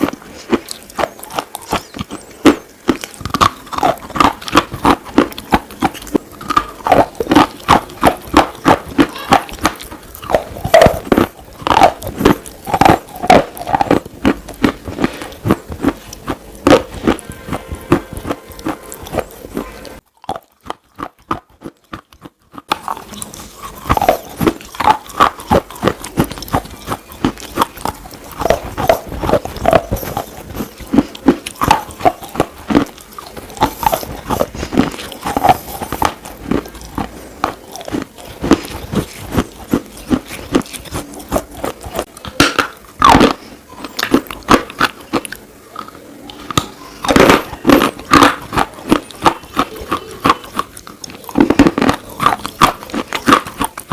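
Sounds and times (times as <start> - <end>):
chewing crunches of slate: 0.0 - 53.9.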